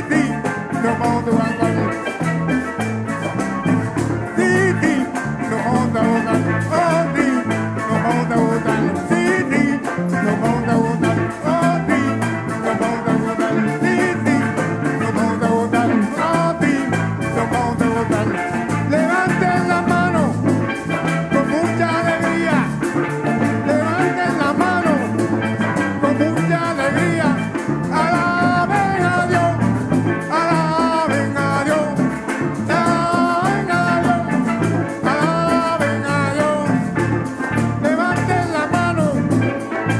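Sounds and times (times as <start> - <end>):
band playing latin-rhythm music: 0.0 - 39.9
melodic lead line: 0.0 - 39.9.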